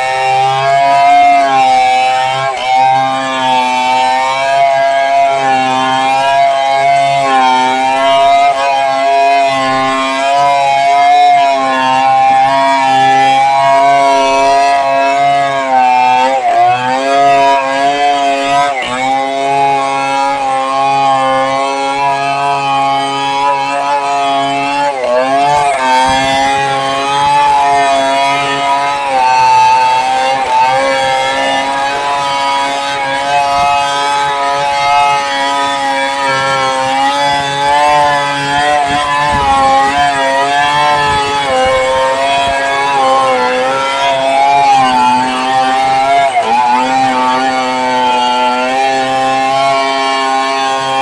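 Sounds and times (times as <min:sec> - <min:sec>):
chainsaw cutting log: 0:00.0 - 0:51.0.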